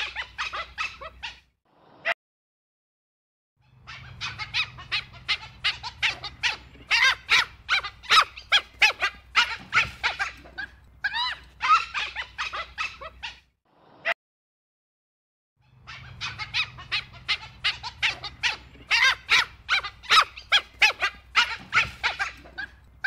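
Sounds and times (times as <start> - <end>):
wild dog squeaking calls: 0.0 - 1.5, 3.7 - 13.5, 15.6 - 23.0.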